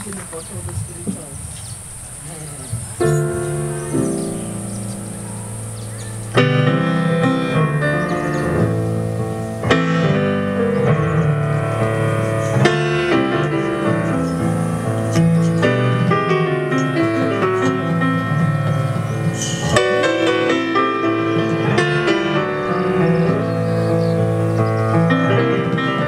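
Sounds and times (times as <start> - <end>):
piano chords ringing: 2.8 - 26.0.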